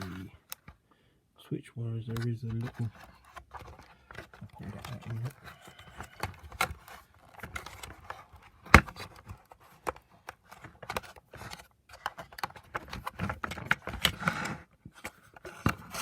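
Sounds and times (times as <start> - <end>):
plastic parts clicking and tapping: 0.0 - 0.8, 2.1 - 16.0
plastic scraping and rustling: 0.0 - 0.8, 2.0 - 16.0.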